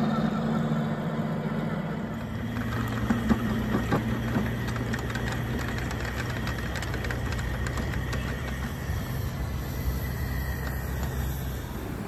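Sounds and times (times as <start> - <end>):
small engine running: 0.0 - 12.0
wheels clicking on rails: 0.0 - 12.0.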